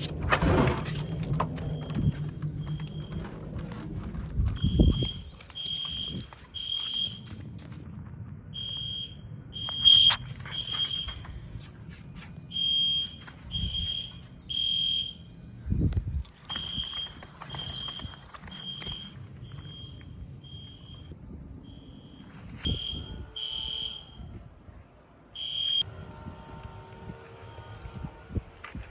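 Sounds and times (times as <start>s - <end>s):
fire alarm beeping: 0.7s - 3.8s, 4.4s - 7.4s, 8.5s - 15.5s, 16.4s - 24.4s, 25.3s - 28.6s.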